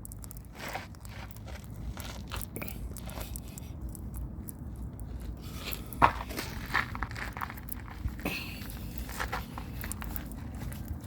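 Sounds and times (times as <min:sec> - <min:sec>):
tire plug crunching and scraping: 0:00.0 - 0:11.0.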